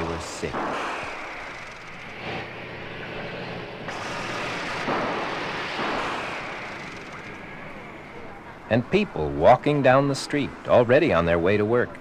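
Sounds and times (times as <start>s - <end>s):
truck engines rumbling: 0.0s - 12.0s.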